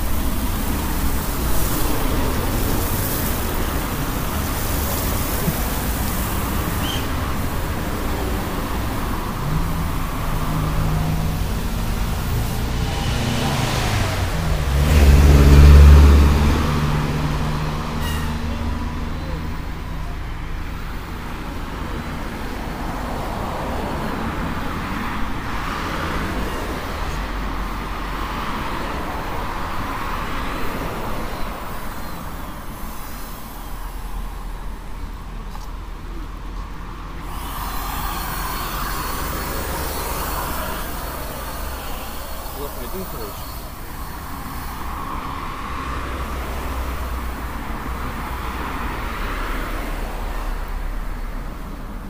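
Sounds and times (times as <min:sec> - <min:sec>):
passing traffic: 0:00.0 - 0:52.0
vehicle engine rumble passing: 0:00.0 - 0:52.0.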